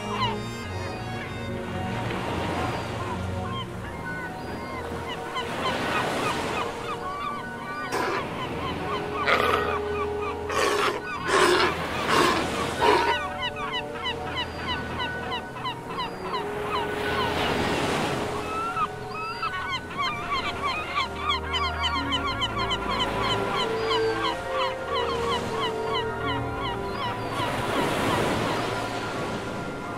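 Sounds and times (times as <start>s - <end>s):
sea lions barking and bleating: 0.0s - 29.9s.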